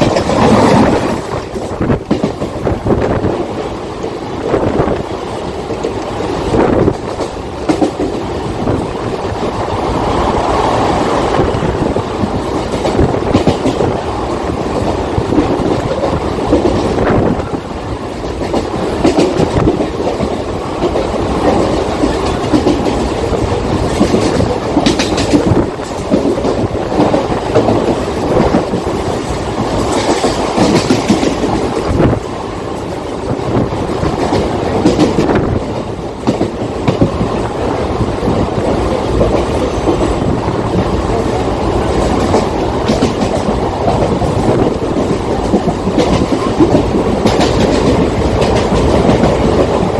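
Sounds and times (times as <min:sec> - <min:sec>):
electric train rumbling: 0:00.0 - 0:49.9
wheels knocking on track: 0:00.0 - 0:49.9.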